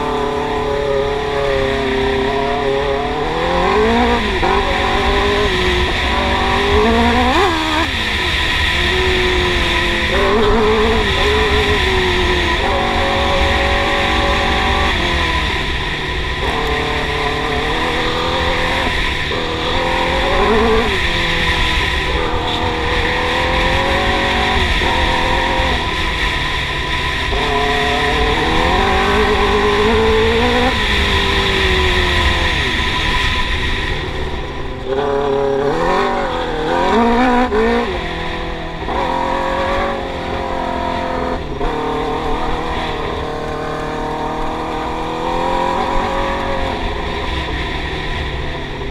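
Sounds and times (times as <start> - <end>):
quad engine revving: 0.0 - 26.0, 27.3 - 33.1, 34.8 - 47.3.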